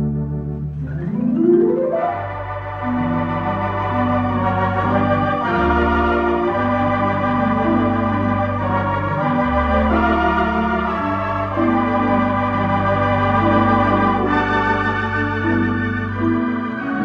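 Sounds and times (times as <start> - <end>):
slow instrumental music: 0.0 - 17.0.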